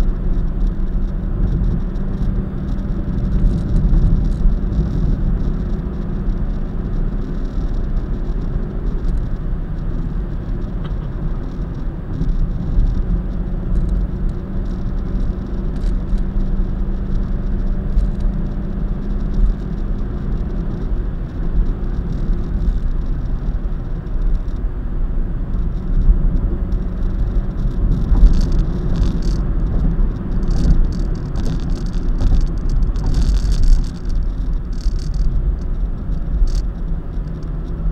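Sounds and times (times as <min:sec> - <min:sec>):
car road and engine rumble: 0:00.0 - 0:37.9
light clicks and rattles: 0:00.0 - 0:37.9.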